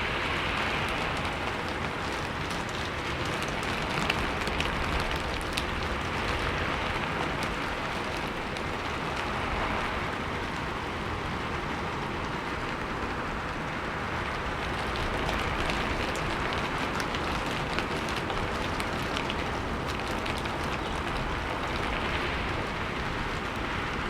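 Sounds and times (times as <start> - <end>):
raindrops ticking: 0.0 - 24.0
steady rain falling: 0.0 - 24.0.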